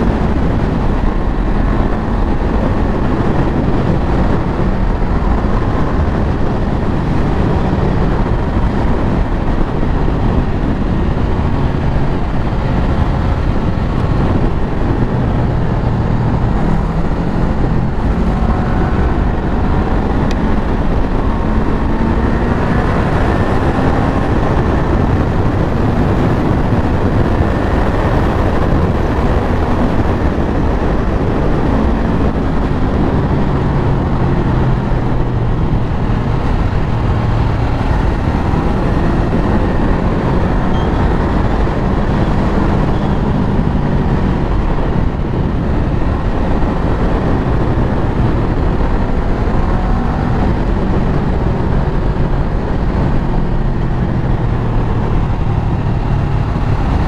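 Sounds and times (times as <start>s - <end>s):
motorcycle engine revving: 0.0s - 57.0s
wind noise on microphone: 0.0s - 57.0s.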